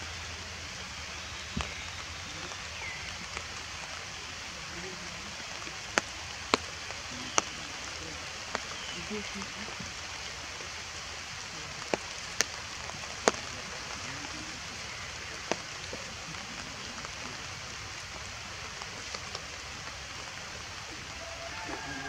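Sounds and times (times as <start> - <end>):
rain falling on foliage: 0.0 - 22.0.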